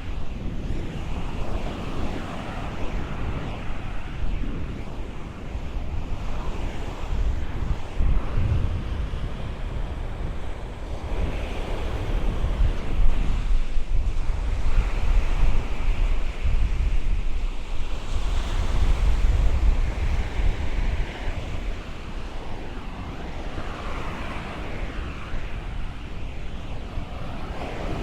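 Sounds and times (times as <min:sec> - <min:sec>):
ocean waves washing on shore: 0:00.0 - 0:28.0
wind buffeting microphone: 0:00.0 - 0:28.0.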